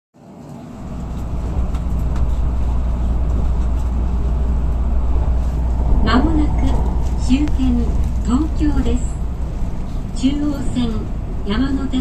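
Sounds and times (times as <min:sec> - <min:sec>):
train running rumble: 0:00.2 - 0:12.0.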